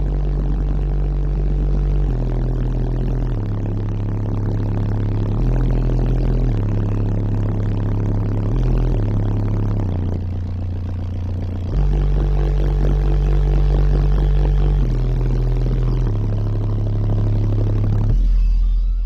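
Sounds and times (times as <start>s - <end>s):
bass-heavy music through subwoofers: 0.0s - 19.0s.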